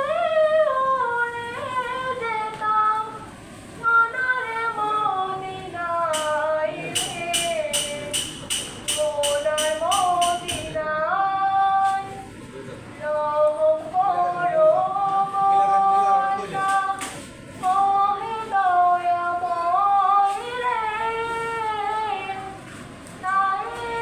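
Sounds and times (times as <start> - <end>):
girl singing devotional song: 0.0 - 12.4, 13.0 - 24.0.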